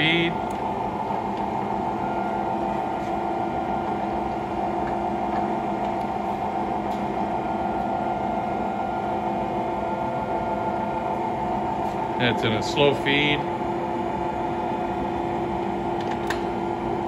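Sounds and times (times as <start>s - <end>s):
lathe humming: 0.0s - 17.0s.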